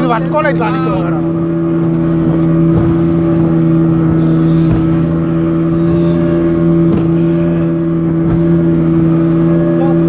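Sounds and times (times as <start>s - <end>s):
speed boat engine running: 0.0s - 10.0s.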